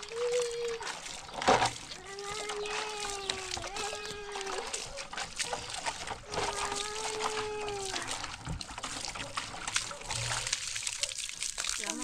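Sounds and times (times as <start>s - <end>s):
water splashing on stony ground: 0.0s - 12.0s.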